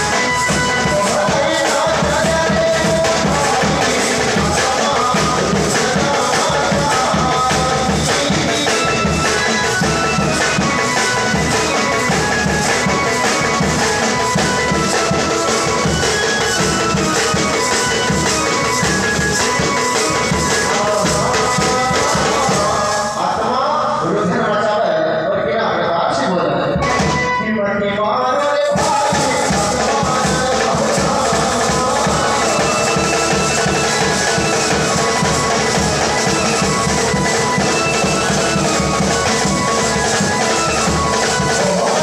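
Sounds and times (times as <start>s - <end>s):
steady drumming: 0.0s - 23.2s, 26.6s - 27.9s, 28.6s - 42.0s
wedding band melody: 0.0s - 24.0s, 26.2s - 42.0s.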